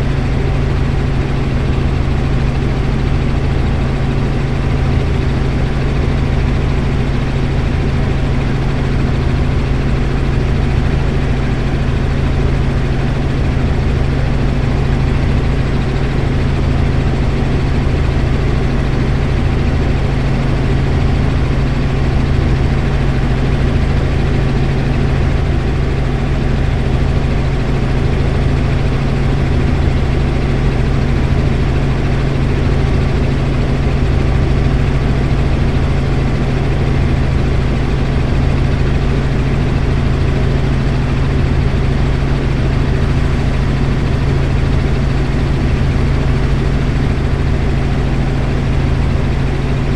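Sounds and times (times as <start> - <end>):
helicopter engine and rotor drone: 0.0 - 49.9.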